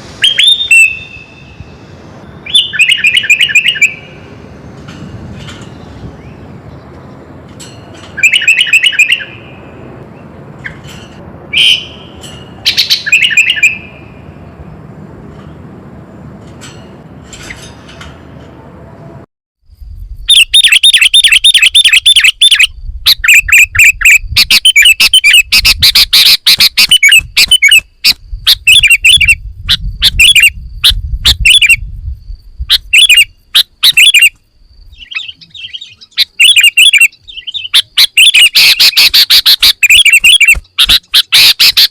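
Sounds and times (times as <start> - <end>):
bird chirping: 0.2 - 4.8, 5.4 - 10.8, 11.5 - 14.6, 20.3 - 31.9, 32.7 - 41.9.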